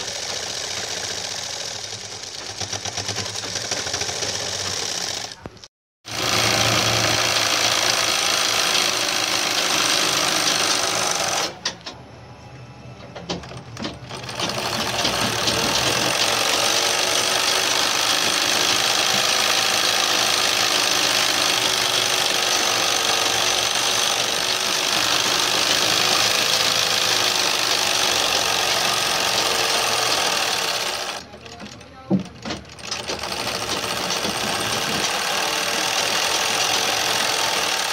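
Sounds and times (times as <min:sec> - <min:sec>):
overlock sewing machine running: 0:00.0 - 0:05.5, 0:06.1 - 0:11.6, 0:14.0 - 0:37.9.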